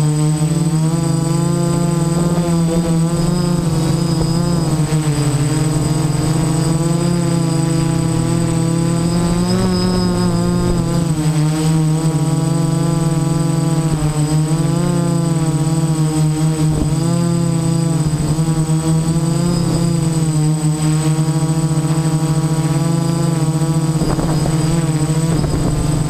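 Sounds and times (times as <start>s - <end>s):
drone motors humming: 0.0s - 26.0s.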